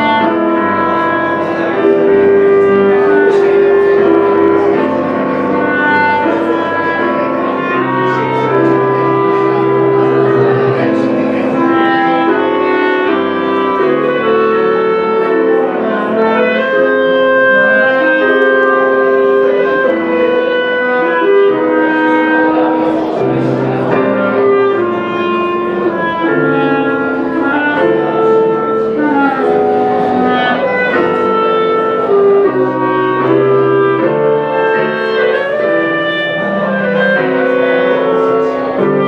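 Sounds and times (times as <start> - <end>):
clarinet duet: 0.0 - 39.0
piano accompaniment: 0.0 - 39.0.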